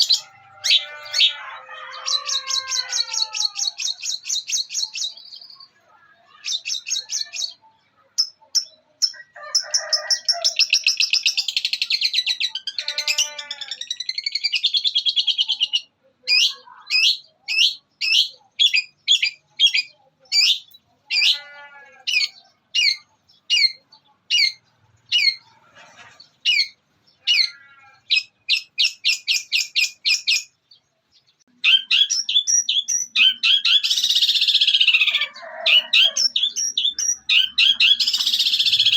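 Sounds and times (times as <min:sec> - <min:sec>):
shrike singing mimicking song: 0:00.0 - 0:30.6, 0:31.5 - 0:38.9.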